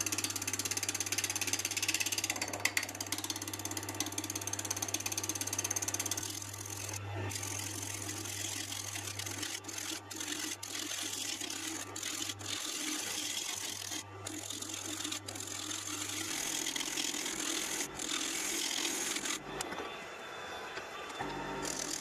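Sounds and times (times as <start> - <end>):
gouge shearing wood: 0.0 - 19.5, 21.6 - 22.0
lathe motor hum: 0.0 - 22.0.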